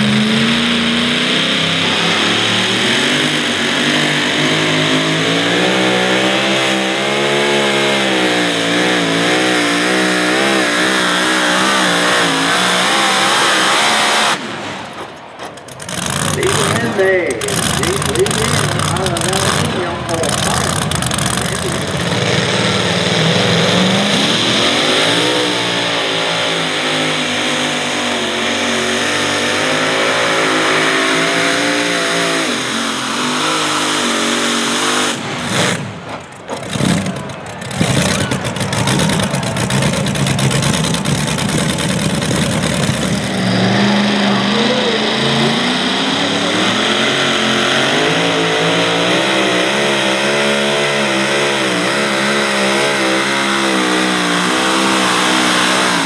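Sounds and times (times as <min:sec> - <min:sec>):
truck engine at full throttle: 0:00.0 - 0:56.0.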